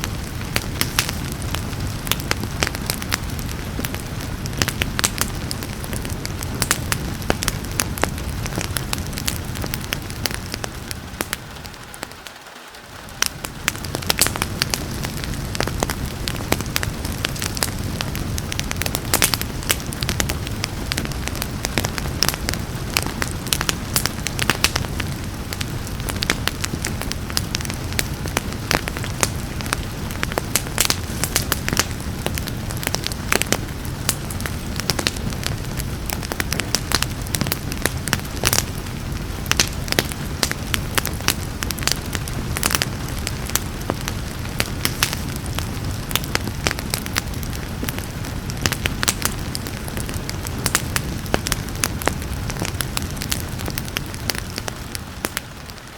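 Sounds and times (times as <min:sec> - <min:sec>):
soft rain hiss: 0:00.0 - 0:55.9
steady low rumble: 0:00.0 - 0:55.9
wood fire crackling and popping: 0:00.0 - 0:55.9.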